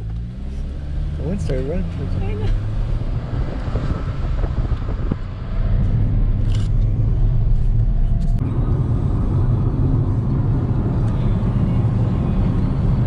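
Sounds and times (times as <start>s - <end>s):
car driving rumble inside cabin: 0.0s - 13.0s.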